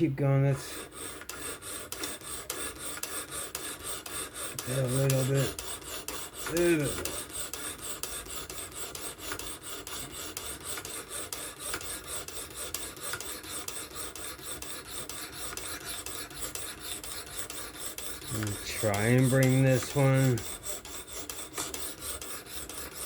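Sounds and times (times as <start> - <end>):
sharpening stone rasping on knife: 0.6 - 23.0.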